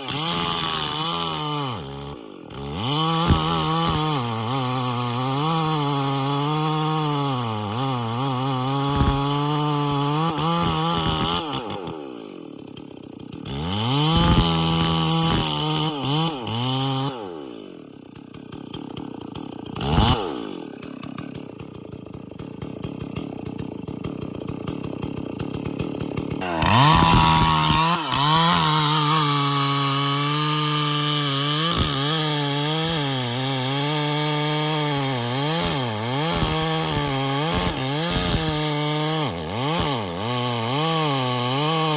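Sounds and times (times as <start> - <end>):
chainsaw revving and idling: 0.0 - 41.9.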